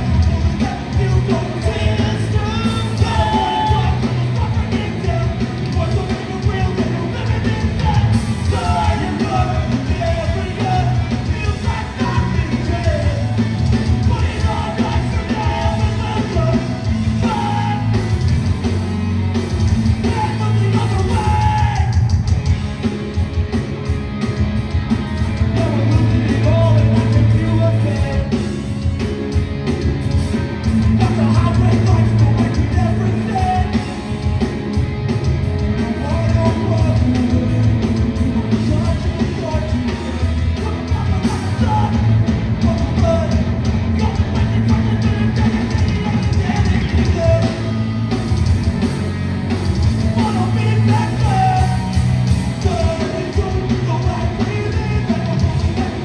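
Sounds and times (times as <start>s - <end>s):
bass guitar: 0.0s - 56.0s
distorted electric guitars: 0.0s - 56.0s
drums: 0.0s - 56.0s.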